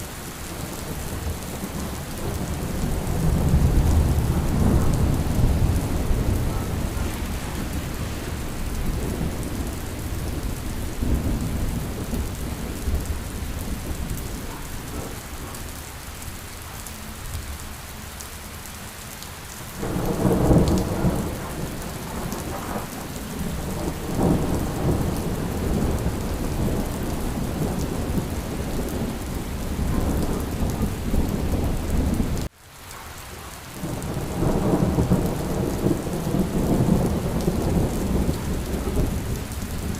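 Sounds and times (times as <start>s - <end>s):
steady rain: 0.0s - 39.9s
rolling thunder: 0.8s - 15.5s, 19.8s - 32.5s, 33.8s - 39.9s.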